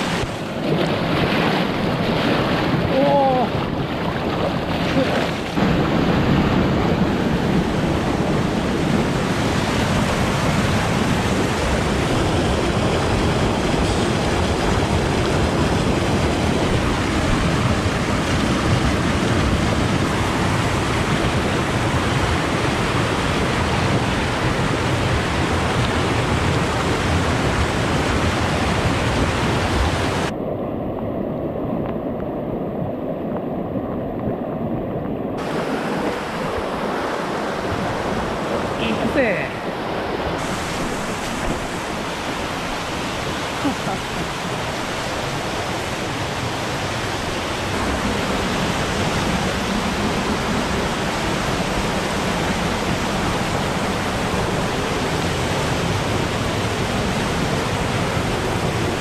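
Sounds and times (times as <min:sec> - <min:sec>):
rushing mountain stream: 0:00.0 - 0:59.0.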